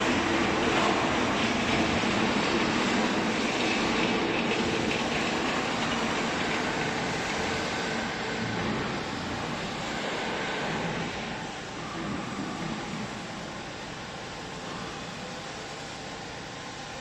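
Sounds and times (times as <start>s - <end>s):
baler machine whirring: 0.0s - 15.7s.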